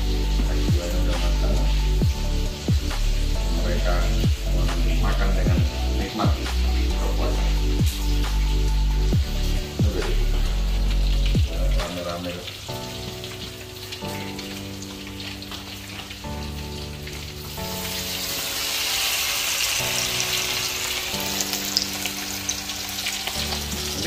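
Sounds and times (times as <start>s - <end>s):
background music with held notes: 0.0s - 24.0s
hot oil sizzling: 0.0s - 24.0s.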